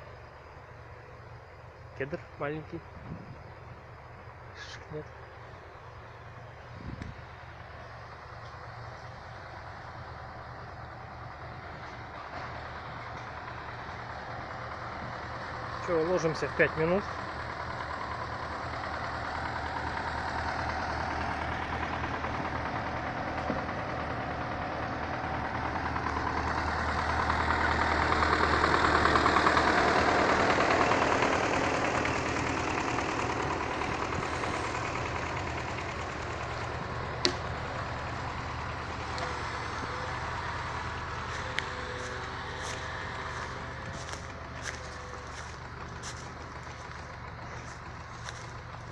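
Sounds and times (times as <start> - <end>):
truck diesel engine running: 0.0 - 48.9.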